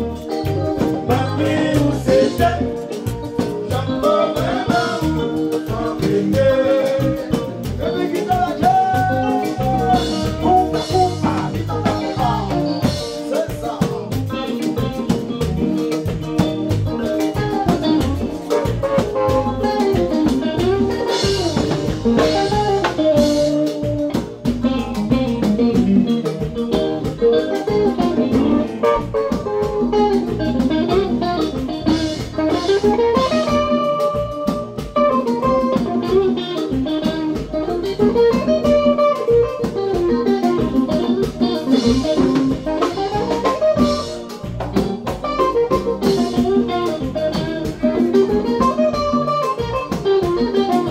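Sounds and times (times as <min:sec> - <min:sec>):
bass guitar: 0:00.0 - 0:50.9
drum kit: 0:00.0 - 0:50.9
electric guitar melody: 0:00.0 - 0:50.9.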